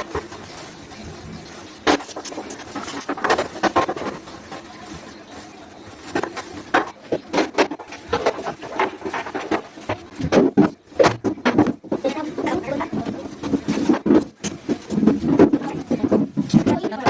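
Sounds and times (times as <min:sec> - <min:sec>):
knocks and clatter of objects: 0:00.0 - 0:17.0.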